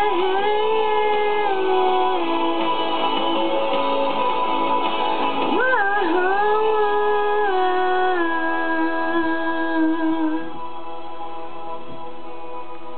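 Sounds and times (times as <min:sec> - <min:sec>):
instrumental backing music: 0:00.0 - 0:12.9.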